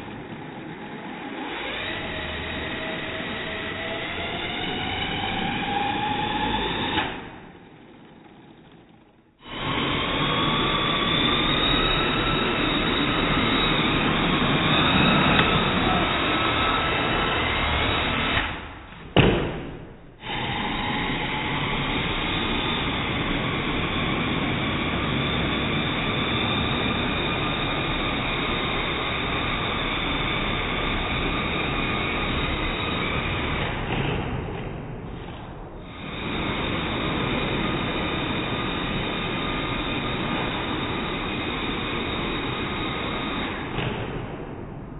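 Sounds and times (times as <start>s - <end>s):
drone rotors buzzing: 0.0s - 7.5s, 9.4s - 44.9s.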